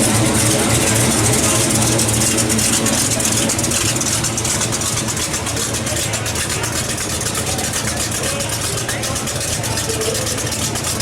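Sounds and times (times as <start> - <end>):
car engine idling: 0.0 - 11.0
murmur of voices: 0.0 - 11.0.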